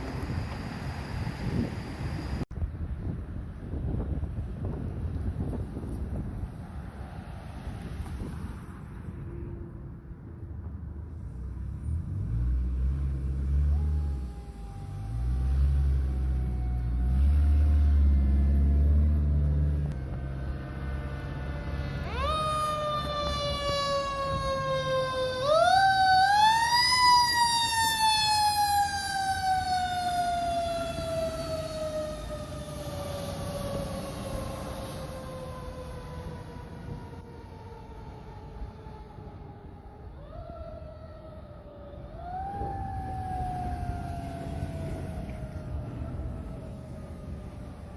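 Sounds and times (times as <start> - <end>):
diesel engine rumble: 0.0 - 40.2, 42.0 - 47.9.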